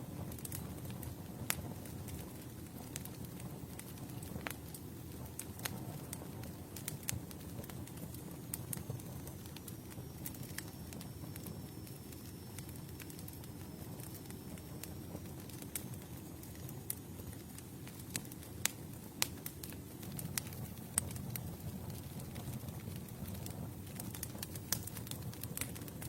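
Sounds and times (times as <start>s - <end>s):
flames rushing: 0.0s - 26.0s
wood crackling and popping: 0.0s - 26.0s.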